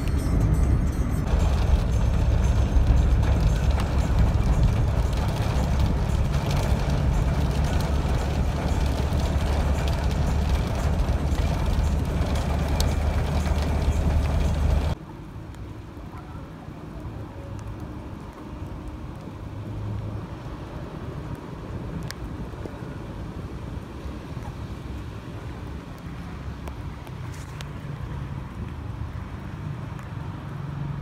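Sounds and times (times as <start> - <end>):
car engine and tyres on wet road: 0.0 - 31.0
quiet outdoor background: 0.0 - 31.0.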